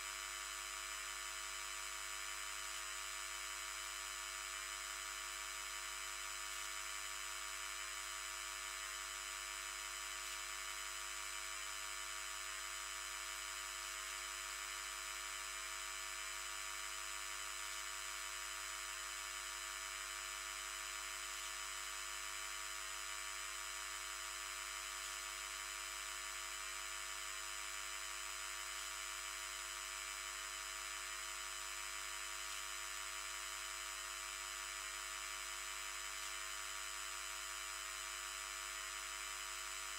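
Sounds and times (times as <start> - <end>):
mains electrical buzz: 0.0 - 39.9.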